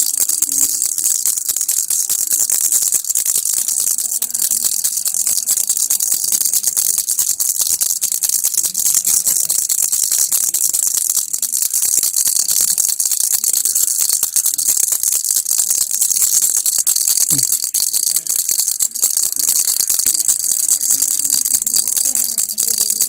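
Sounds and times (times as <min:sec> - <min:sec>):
baby rattle shaken: 0:00.0 - 0:23.0.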